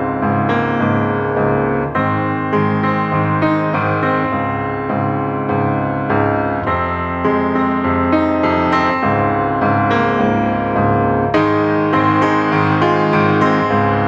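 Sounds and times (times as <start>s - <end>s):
piano-like keyboard music: 0.0s - 14.0s.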